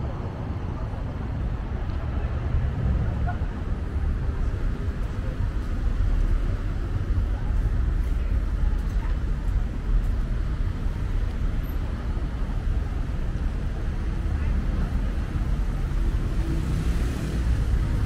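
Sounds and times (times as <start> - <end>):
city street rumble: 0.0 - 18.0.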